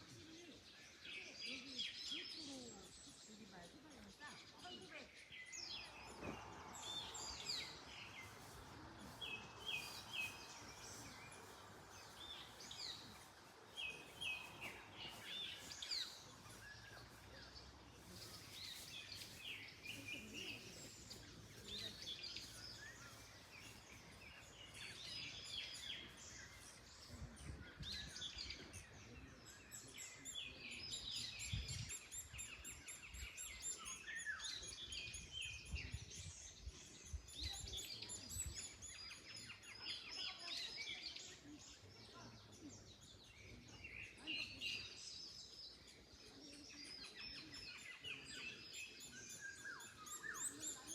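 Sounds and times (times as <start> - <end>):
birds chirping and singing: 0.0 - 50.9.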